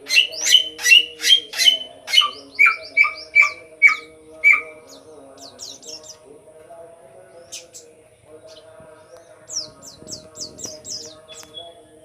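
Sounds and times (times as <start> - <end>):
songbird singing clear notes: 0.0 - 6.3, 7.2 - 12.0.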